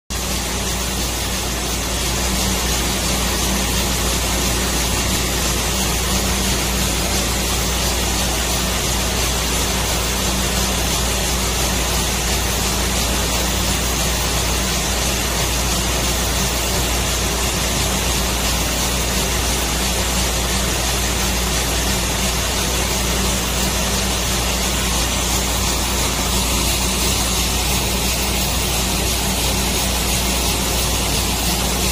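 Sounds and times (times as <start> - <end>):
low machine hum: 0.2 - 31.9.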